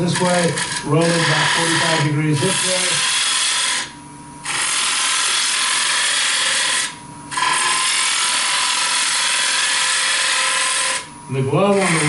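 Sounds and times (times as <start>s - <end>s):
lathe tool cutting wood: 0.0s - 11.1s, 11.7s - 12.0s.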